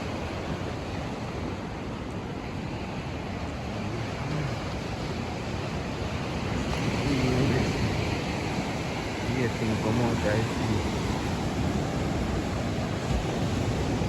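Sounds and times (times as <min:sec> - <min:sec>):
sea surf on shore: 0:00.0 - 0:14.0
wind on microphone: 0:00.0 - 0:14.0.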